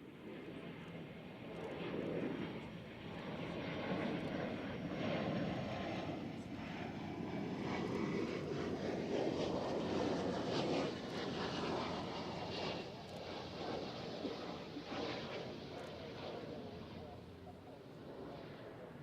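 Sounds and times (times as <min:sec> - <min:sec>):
aircraft engine: 0:00.0 - 0:19.0.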